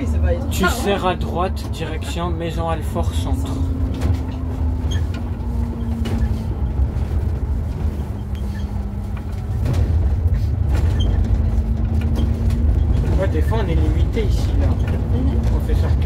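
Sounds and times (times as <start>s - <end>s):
bus road rumble: 0.0s - 16.0s.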